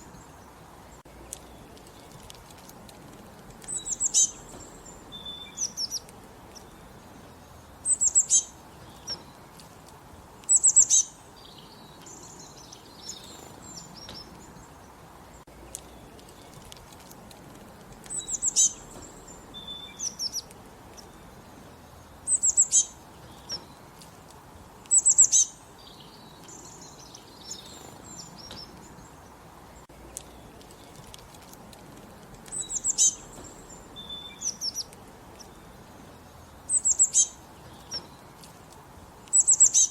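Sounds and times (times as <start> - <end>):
birds chirping softly: 0.0 - 39.9.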